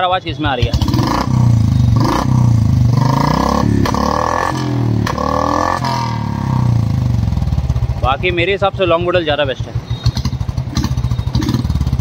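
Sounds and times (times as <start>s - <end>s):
motorcycle engine revving: 0.4s - 12.0s.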